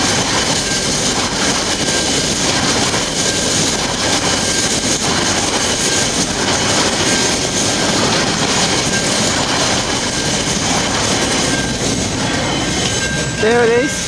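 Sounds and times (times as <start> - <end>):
freight train wheels on track: 0.0 - 14.0.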